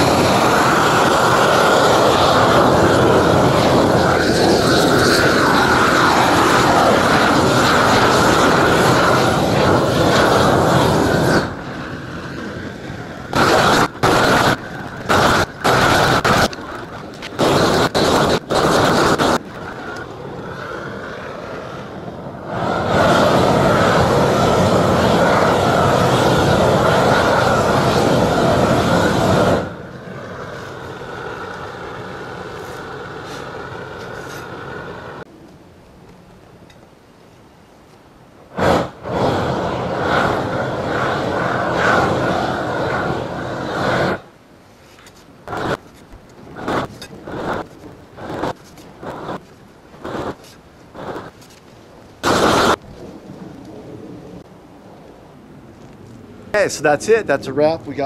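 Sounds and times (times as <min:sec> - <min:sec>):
roofing torch flame roaring: 0:00.0 - 0:35.3, 0:38.2 - 0:58.0.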